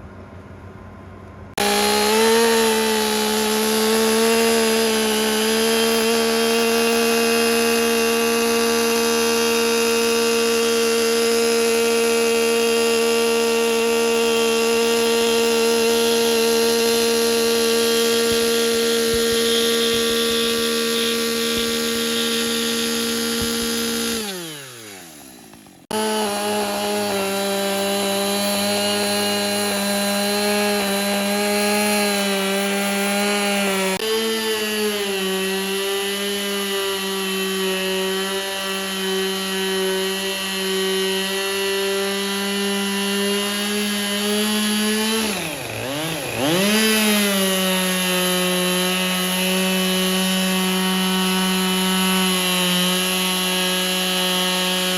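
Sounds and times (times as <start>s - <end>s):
power tool cutting timber: 1.6s - 54.9s.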